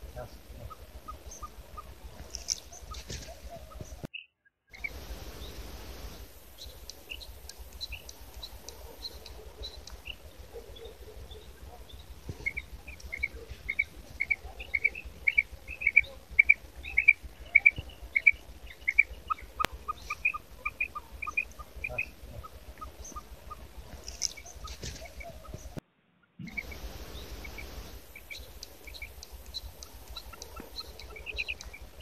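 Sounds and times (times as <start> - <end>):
quail chirping: 0.0 - 5.7, 6.6 - 32.0
lower bird notes: 0.0 - 32.0.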